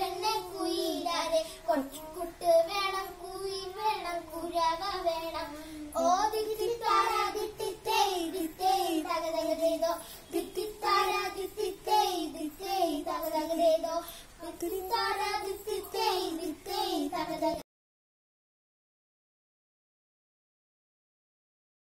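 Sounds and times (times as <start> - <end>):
child singing unaccompanied: 0.0 - 17.6.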